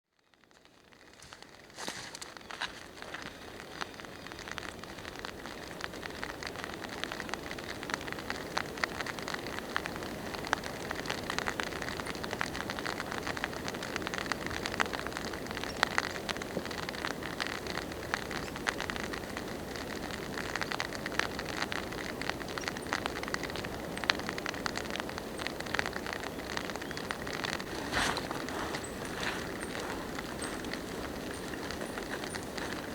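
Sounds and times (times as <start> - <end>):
steady rain falling: 0.2 - 32.9.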